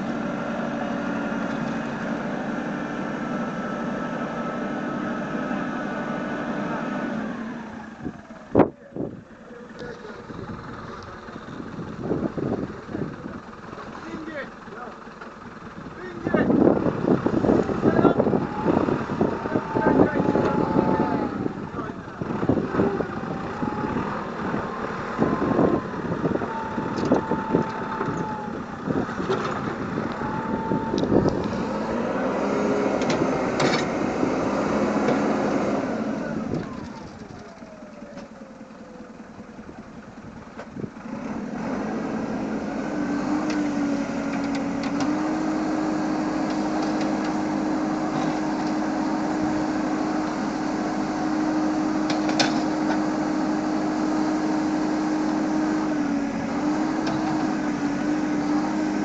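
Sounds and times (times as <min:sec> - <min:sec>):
backhoe diesel engine working: 0:00.0 - 0:59.0.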